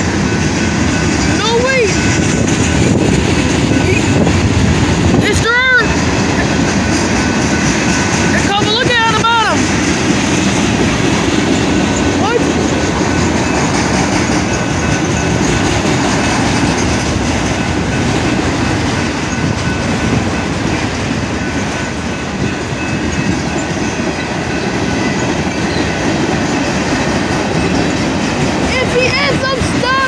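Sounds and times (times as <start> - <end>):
freight train cars rumbling past: 0.0 - 30.0.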